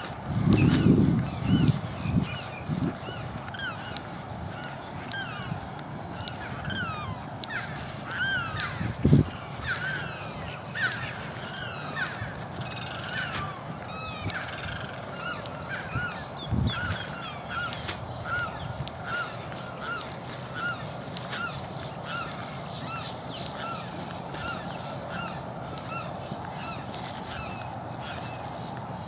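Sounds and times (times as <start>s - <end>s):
bird honking calls: 0.6s - 29.0s.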